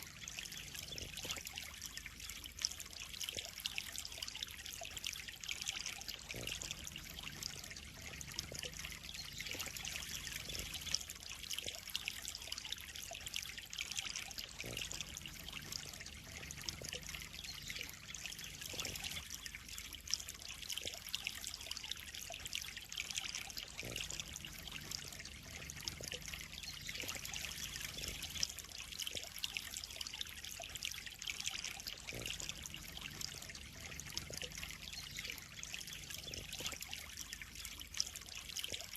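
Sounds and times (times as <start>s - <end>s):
water trickling into pond: 0.0s - 38.9s.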